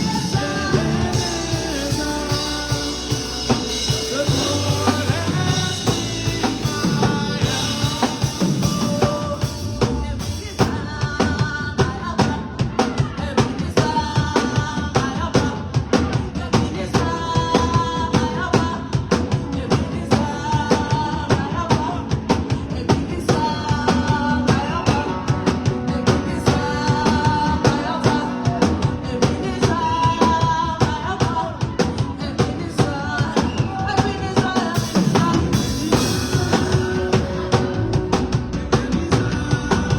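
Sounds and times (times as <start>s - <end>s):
band music: 0.0s - 39.9s
drum kit beat: 0.0s - 39.9s
person singing: 0.0s - 39.9s.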